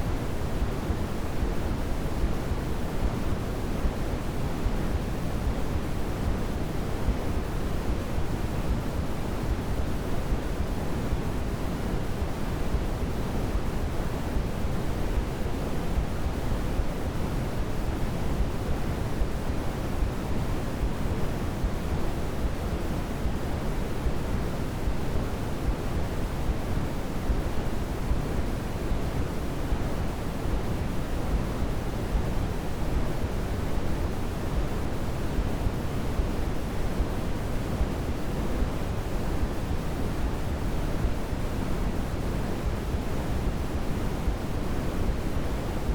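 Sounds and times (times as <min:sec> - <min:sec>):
steady pink noise: 0:00.0 - 0:45.9.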